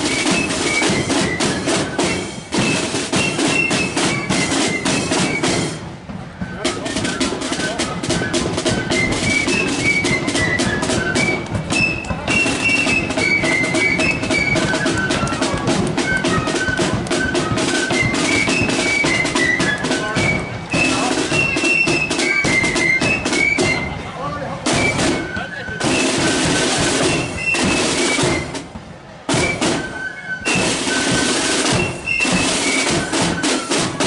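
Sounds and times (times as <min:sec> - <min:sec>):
flutes playing melody: 0:00.0 - 0:34.0
snare and bass drums: 0:00.0 - 0:34.0.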